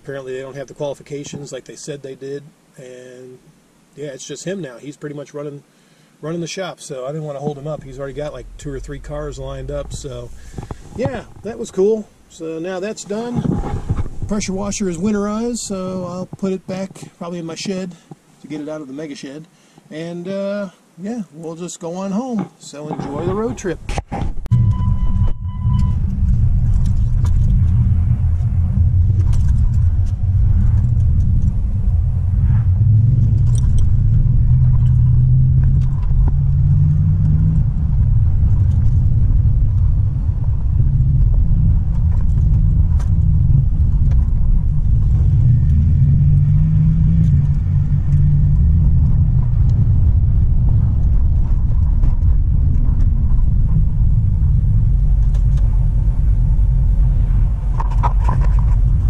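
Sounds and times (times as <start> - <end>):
truck engine and road rumble: 6.9 - 18.3, 22.4 - 59.0.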